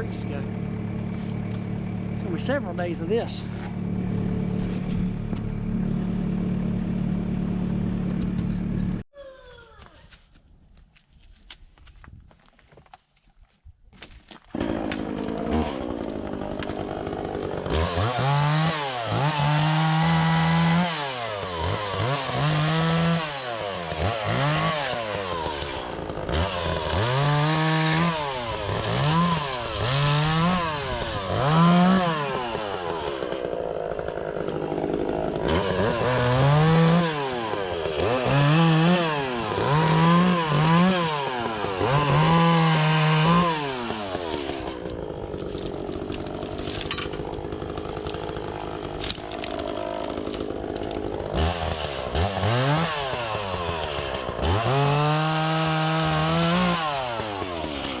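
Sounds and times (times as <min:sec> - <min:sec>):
chainsaw revving while cutting logs: 0:00.0 - 0:04.6, 0:14.5 - 0:58.0.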